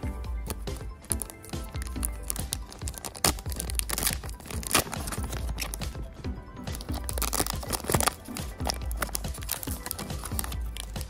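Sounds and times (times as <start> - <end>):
background music: 0.0 - 11.0
foil pack crinkling and tearing: 0.6 - 5.9, 6.7 - 11.0.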